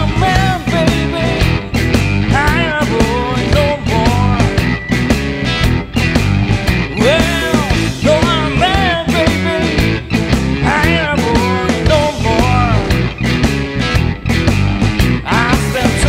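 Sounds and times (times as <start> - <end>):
bass guitar: 0.0 - 16.0
electric guitar lead lines: 0.0 - 16.0
steady drum beat: 0.0 - 16.0.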